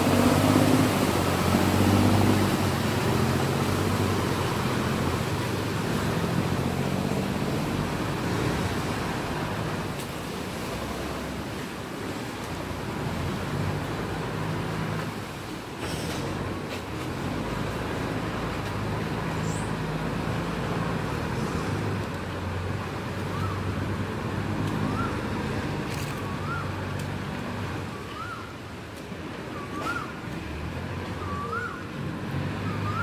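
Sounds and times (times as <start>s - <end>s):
boat engines humming: 0.0s - 33.0s.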